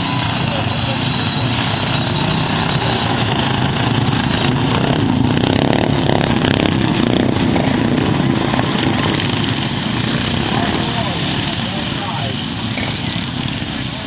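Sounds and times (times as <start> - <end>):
lawn mower engines running: 0.0 - 14.0.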